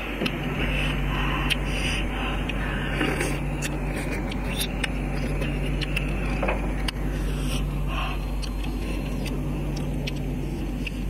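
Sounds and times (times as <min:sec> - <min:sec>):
steady background hum: 0:00.0 - 0:11.0
chewing: 0:00.2 - 0:11.0.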